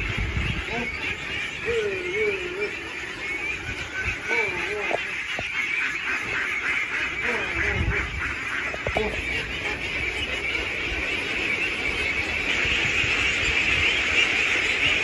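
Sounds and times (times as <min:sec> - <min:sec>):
flock of ducks quacking: 0:00.0 - 0:15.0.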